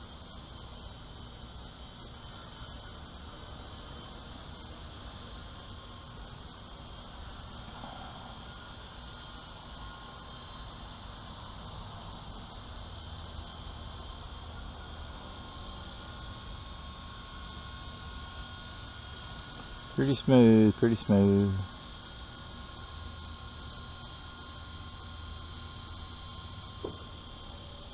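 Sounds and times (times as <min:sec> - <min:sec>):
rc helicopter motor whine: 0:00.0 - 0:27.9.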